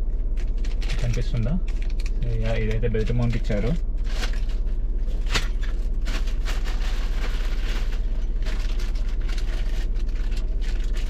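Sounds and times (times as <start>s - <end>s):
low electrical hum: 0.0s - 11.0s
plastic packaging rustling: 0.2s - 11.0s.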